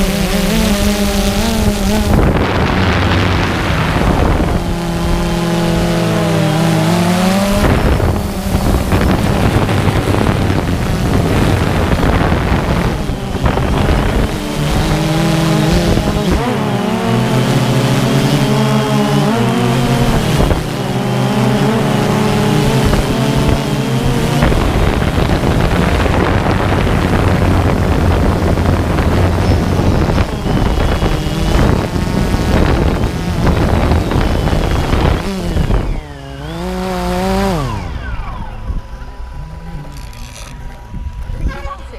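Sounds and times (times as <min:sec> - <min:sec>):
drone propellers buzzing: 0:00.0 - 0:41.9
wind noise on microphone: 0:00.0 - 0:41.9.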